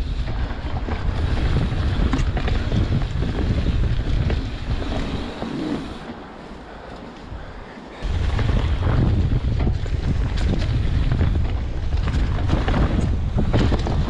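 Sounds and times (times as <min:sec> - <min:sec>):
tyres rumbling on dirt: 0:00.0 - 0:06.4, 0:07.6 - 0:14.0
wind buffeting microphone: 0:00.0 - 0:06.4, 0:07.2 - 0:14.0.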